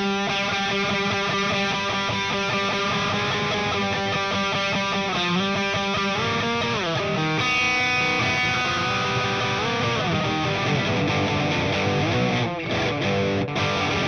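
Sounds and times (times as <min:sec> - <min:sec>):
driven electric guitar: 0:00.0 - 0:14.0.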